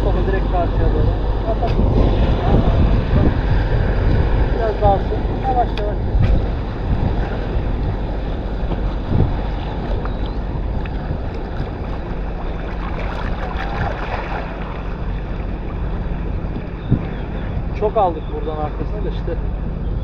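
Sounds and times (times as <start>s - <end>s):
small waves washing: 0.0s - 19.7s
faint boat engine hum: 0.0s - 20.0s
wind buffeting microphone: 0.0s - 20.0s.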